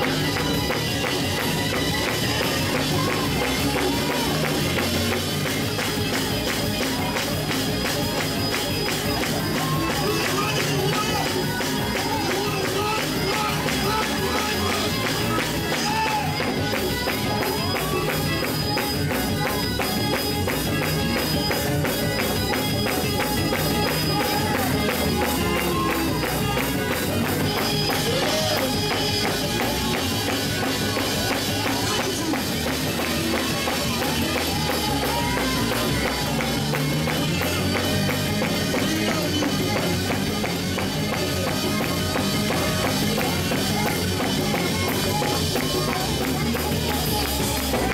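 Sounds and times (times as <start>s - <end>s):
gospel praise music with fast beat: 0.0s - 47.9s.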